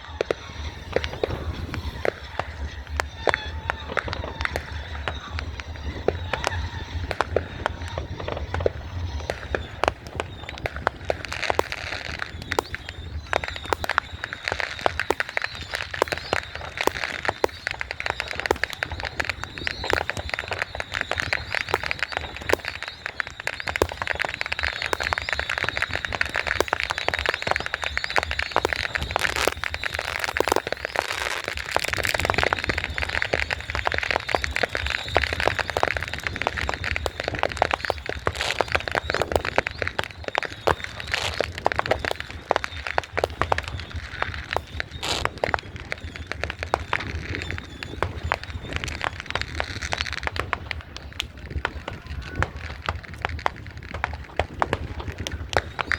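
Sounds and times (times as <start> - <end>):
fireworks popping and crackling: 0.0 - 55.9.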